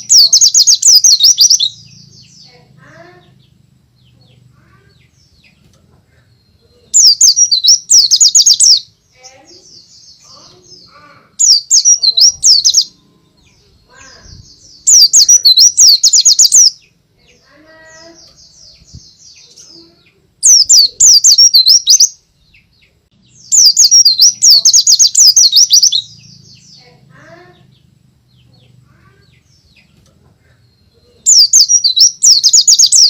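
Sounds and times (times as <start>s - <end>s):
bird rapid high chirping: 0.0s - 5.6s, 6.8s - 30.0s, 30.7s - 33.0s
fainter lower bird calls: 4.0s - 27.6s, 28.4s - 33.0s.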